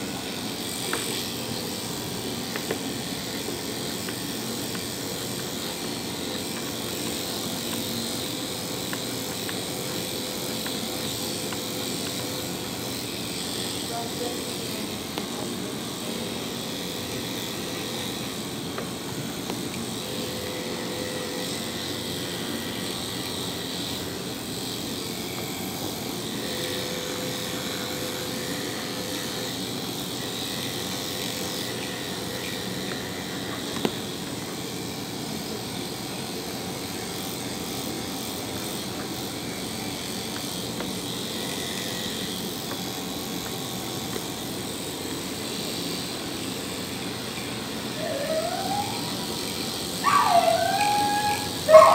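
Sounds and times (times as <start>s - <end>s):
electric clippers buzzing: 0.0s - 51.9s.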